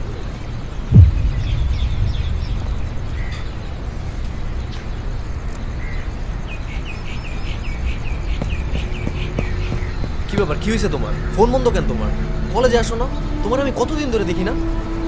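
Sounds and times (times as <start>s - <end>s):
birds chirping: 0.0s - 15.0s
low street rumble: 0.0s - 15.0s.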